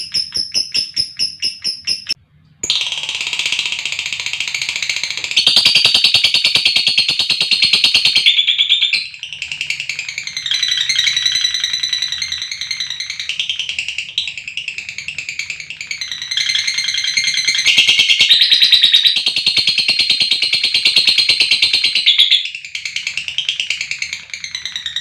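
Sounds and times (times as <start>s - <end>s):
lovebird chattering trill: 0.0s - 25.0s.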